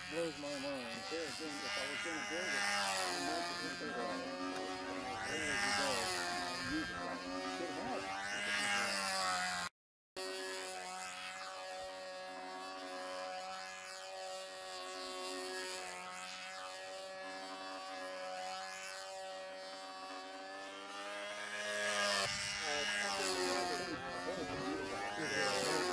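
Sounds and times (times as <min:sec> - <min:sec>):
model airplane motor buzzing: 0:00.0 - 0:25.9.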